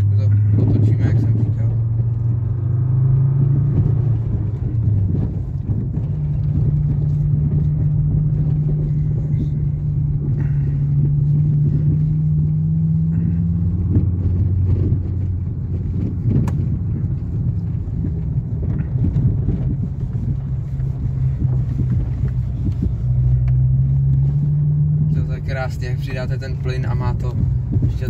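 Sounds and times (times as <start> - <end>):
car engine drone from inside: 0.0 - 28.0.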